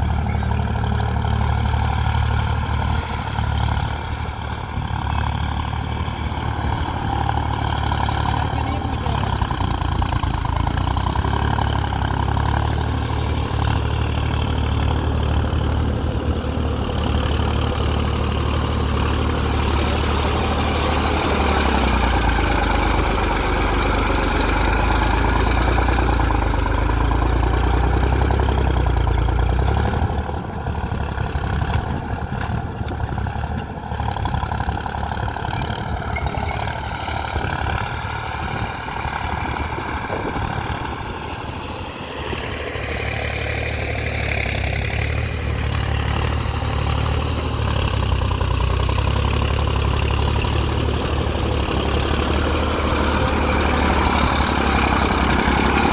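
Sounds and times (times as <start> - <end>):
tractor diesel engine rumbling: 0.0 - 55.9.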